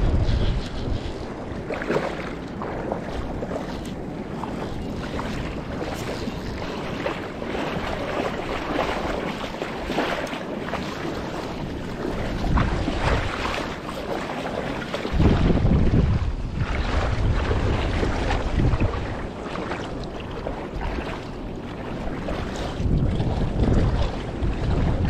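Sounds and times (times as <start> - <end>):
shallow water washing: 0.0 - 25.0
wind buffeting microphone: 0.0 - 25.0.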